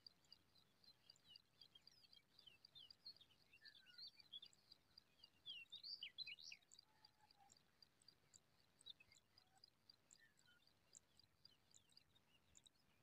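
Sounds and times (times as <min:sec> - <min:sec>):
faint small birds chirping: 0:00.0 - 0:13.0.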